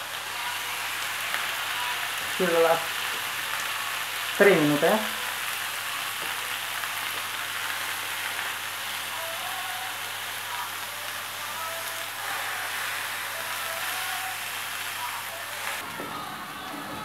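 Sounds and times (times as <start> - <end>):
fish frying in hot oil: 0.0 - 15.8.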